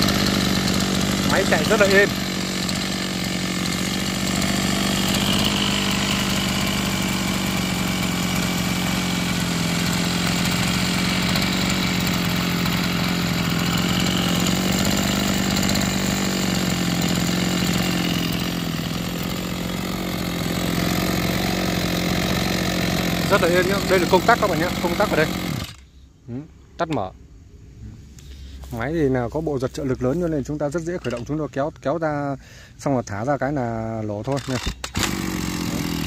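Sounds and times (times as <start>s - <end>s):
brush cutter engine idling: 0.0s - 25.9s, 28.2s - 36.0s.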